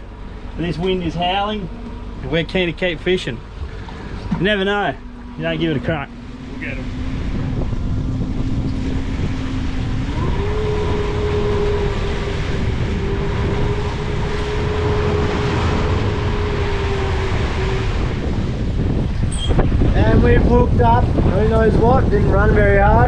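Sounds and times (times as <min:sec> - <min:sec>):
boat engine running: 0:00.0 - 0:23.0
wind noise: 0:03.4 - 0:23.0.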